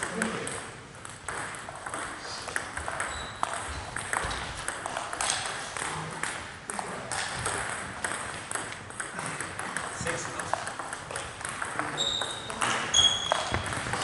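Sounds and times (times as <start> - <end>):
table tennis ball clicking: 0.0 - 14.0.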